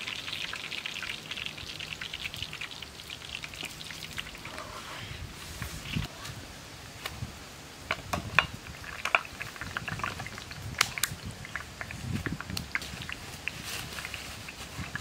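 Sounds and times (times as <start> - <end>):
leaves rustling: 0.0 - 15.0.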